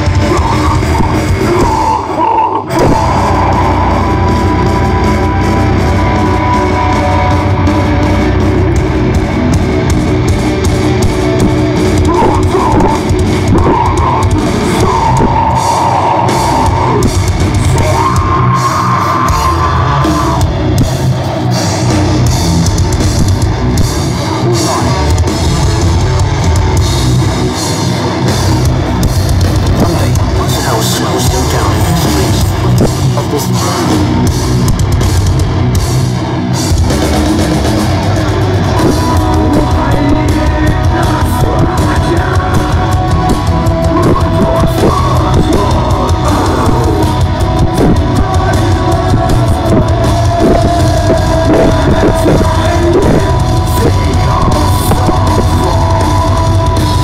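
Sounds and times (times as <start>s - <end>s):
distorted electric guitars: 0.0s - 57.0s
fast drumming with crashing cymbals: 0.0s - 57.0s.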